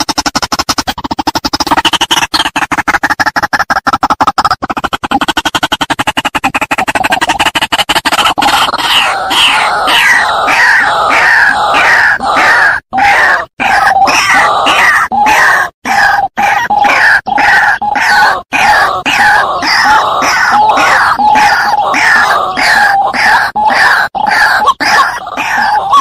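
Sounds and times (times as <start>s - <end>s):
bird calling harsh notes: 0.0s - 26.0s.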